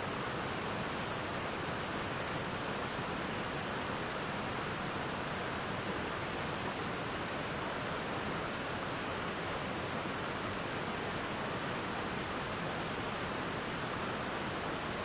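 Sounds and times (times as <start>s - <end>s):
water rushing over rapids: 0.0s - 15.0s.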